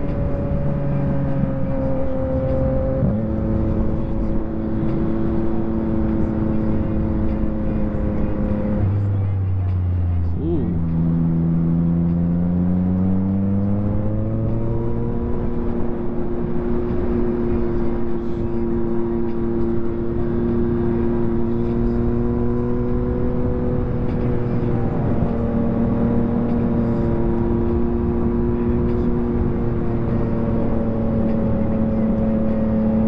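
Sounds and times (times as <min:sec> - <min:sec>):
motorcycle engine revving: 0:00.0 - 0:33.0
wind and road noise: 0:00.0 - 0:33.0.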